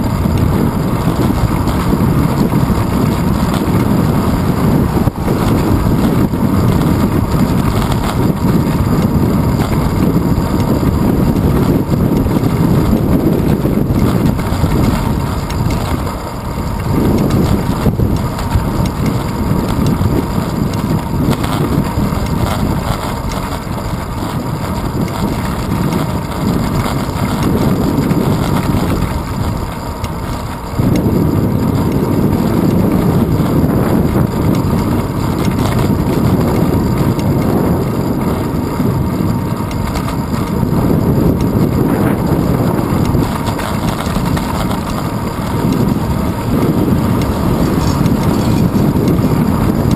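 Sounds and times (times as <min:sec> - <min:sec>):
road and tyre noise: 0:00.0 - 0:49.9
wind buffeting microphone: 0:00.0 - 0:49.9.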